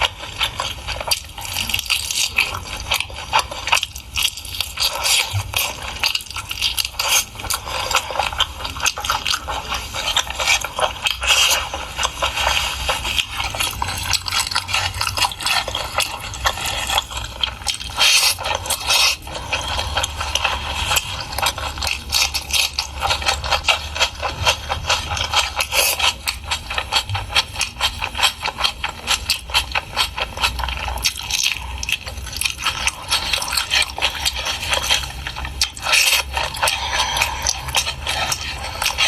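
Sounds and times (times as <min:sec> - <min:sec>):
mouth chewing and smacking: 0:00.0 - 0:39.0.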